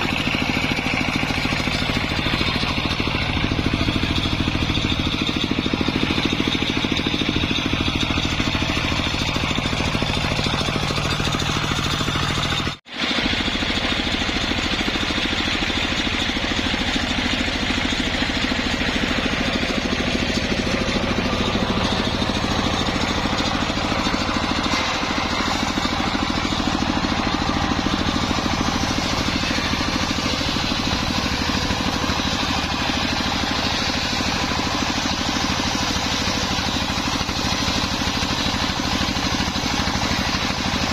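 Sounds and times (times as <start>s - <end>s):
circular saw mill running: 0.0s - 40.9s.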